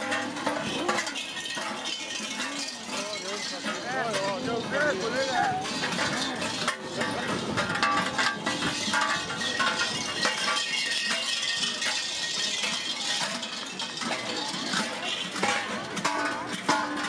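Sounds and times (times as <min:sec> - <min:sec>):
large bells clanging and rattling: 0:00.0 - 0:17.0.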